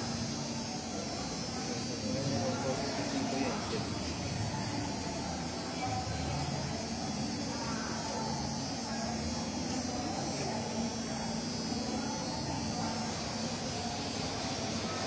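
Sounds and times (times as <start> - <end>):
exhibition hall hum and hiss: 0.0 - 15.0.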